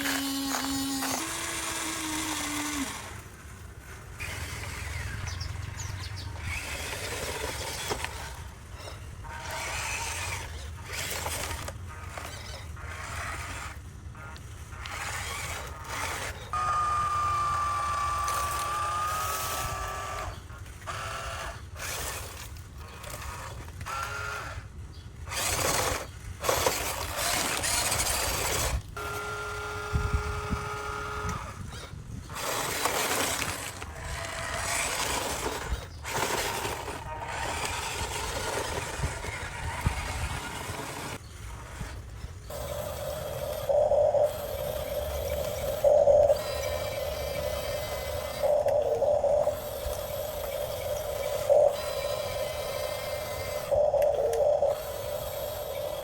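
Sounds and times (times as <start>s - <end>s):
toy motors whirring: 0.0s - 56.0s.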